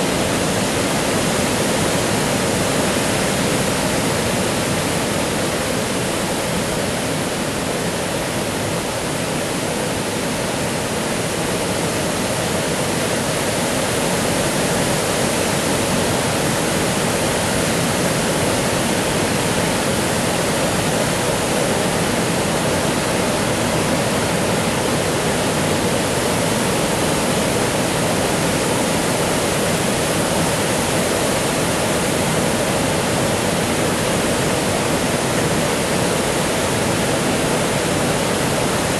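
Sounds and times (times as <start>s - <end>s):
water rushing over dam: 0.0s - 38.9s.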